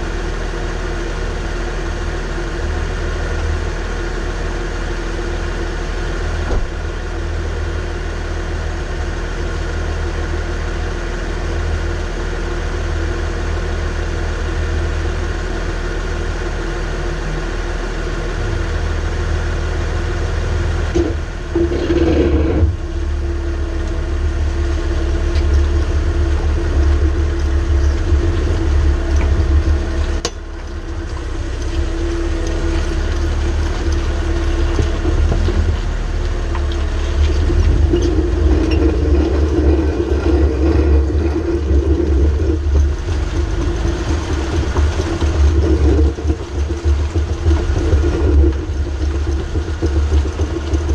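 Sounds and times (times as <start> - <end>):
driveshaft drone while driving: 0.0 - 50.9.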